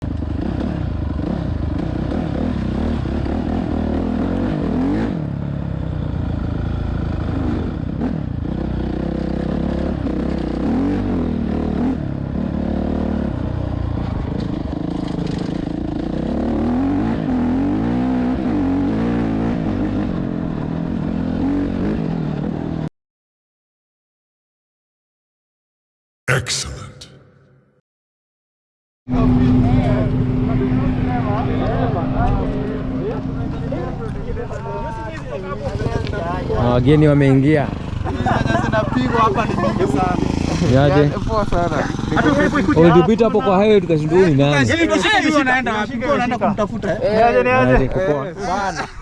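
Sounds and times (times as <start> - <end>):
motorcycle engines revving: 0.0 - 22.9, 29.1 - 49.0.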